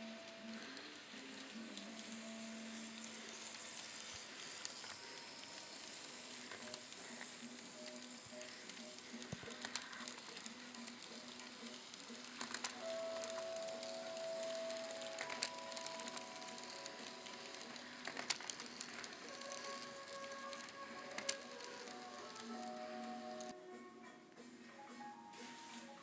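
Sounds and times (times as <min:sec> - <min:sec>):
model train running on track: 0:00.0 - 0:23.6
small clicks: 0:00.2 - 0:23.5.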